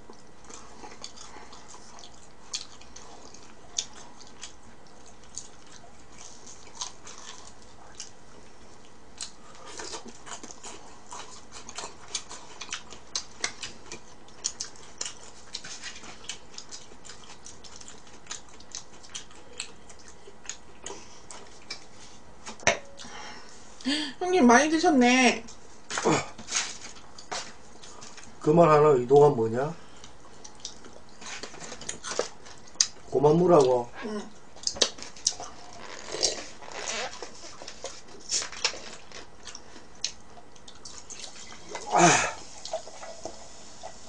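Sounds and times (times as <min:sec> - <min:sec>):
chewing fried chicken: 0:00.0 - 0:22.3, 0:25.4 - 0:44.0.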